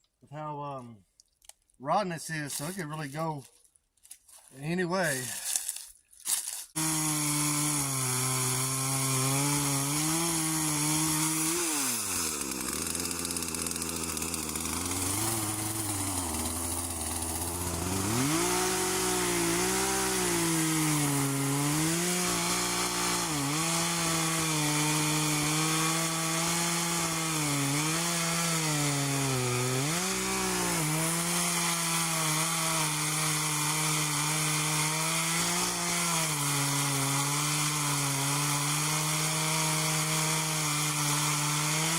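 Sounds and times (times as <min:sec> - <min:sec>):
chainsaw cutting wood: 0:05.1 - 0:41.9.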